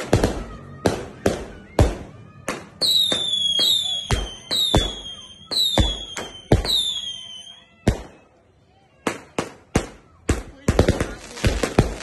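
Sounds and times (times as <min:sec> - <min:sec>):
fireworks bangs: 0:00.0 - 0:08.3, 0:09.0 - 0:12.0
whistling rockets: 0:00.0 - 0:08.3, 0:09.0 - 0:12.0.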